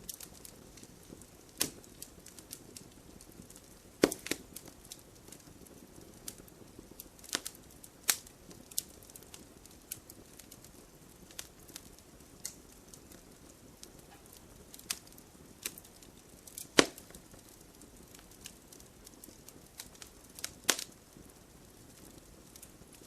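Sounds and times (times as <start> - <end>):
firewood burning with crackles: 0.0 - 23.0.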